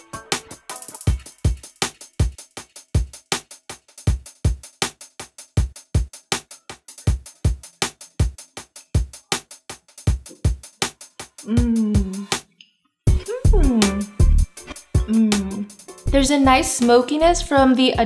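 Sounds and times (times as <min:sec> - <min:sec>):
electronic drum machine beat: 0:00.0 - 0:12.4, 0:13.1 - 0:18.0.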